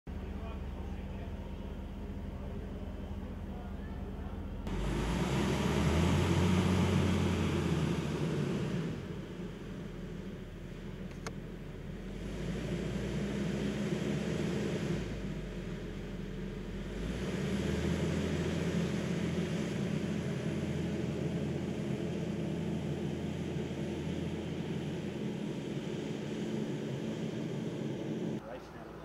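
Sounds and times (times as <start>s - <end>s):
loader diesel engine running: 0.1s - 29.0s.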